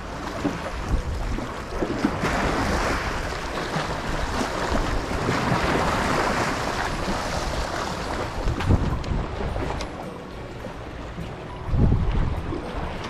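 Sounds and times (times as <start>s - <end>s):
waves splashing over boulders: 0.0s - 13.0s
wind buffeting microphone: 0.6s - 10.0s, 11.6s - 13.0s.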